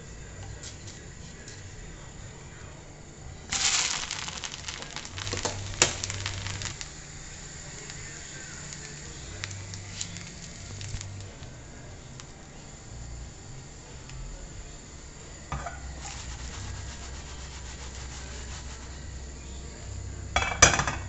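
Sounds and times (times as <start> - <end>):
crackles: 2.9 - 20.5
crepe sizzling in a frying pan: 3.4 - 21.0.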